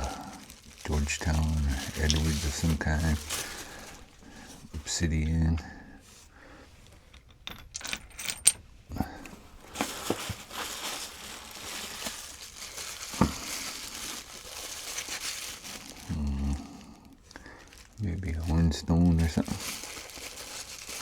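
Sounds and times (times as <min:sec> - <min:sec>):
packing wrap crinkling: 0:00.0 - 0:05.3, 0:09.3 - 0:21.0.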